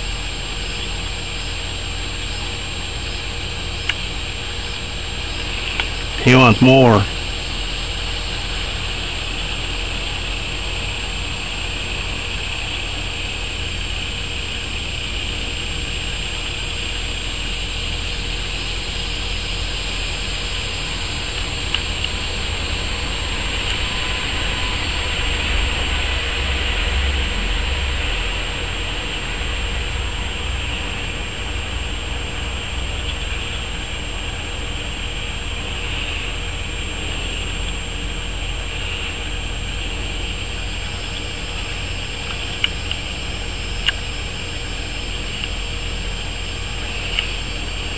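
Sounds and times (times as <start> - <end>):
insect drone: 0.0 - 6.0, 7.6 - 47.9.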